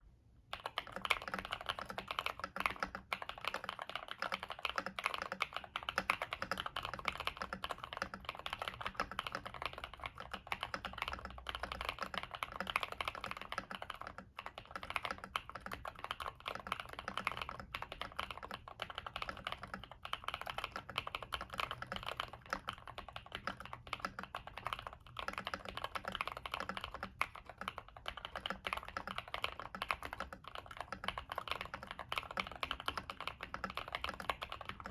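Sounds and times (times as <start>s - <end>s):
fast typing on mechanical keyboard: 0.5s - 34.9s.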